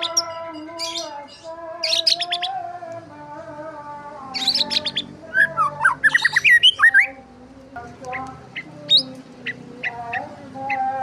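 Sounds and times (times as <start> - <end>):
small birds chirping: 0.0 - 3.0, 4.1 - 11.0.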